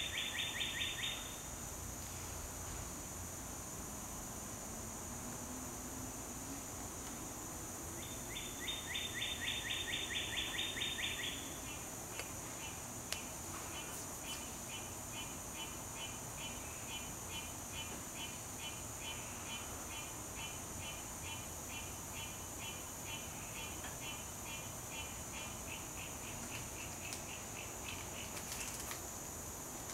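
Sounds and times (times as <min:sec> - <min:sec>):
high insect drone: 0:00.0 - 0:29.9.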